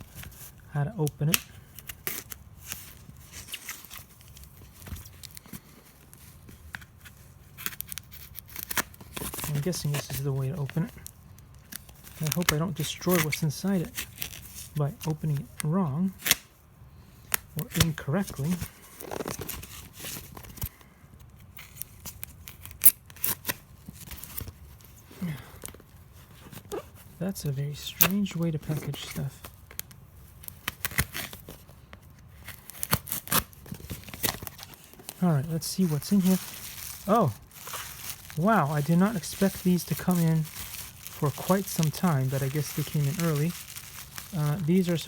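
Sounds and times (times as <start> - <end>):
packaging crinkling and rustling: 0.0 - 16.6, 17.2 - 45.0.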